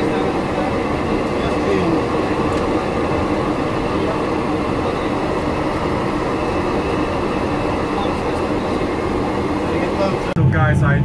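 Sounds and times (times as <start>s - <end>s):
constant hums: 0.0s - 11.0s
jet engine drone: 0.0s - 11.0s.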